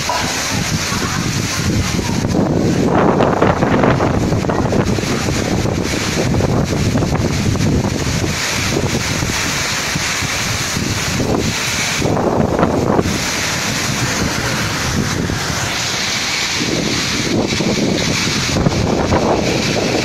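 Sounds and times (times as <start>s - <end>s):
heavy rain downpour: 0.0s - 20.0s
wind buffeting the microphone: 0.0s - 20.0s.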